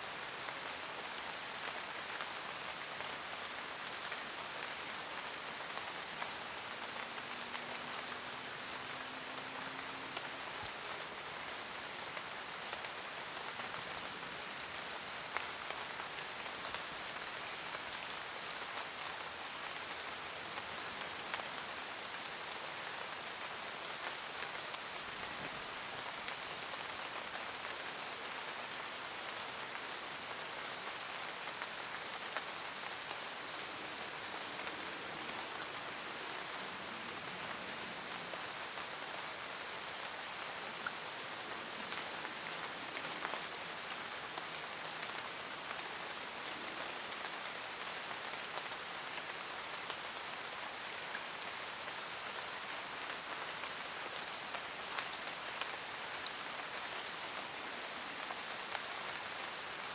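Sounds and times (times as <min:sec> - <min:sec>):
raindrops pattering on leaves: 0:00.0 - 0:59.9.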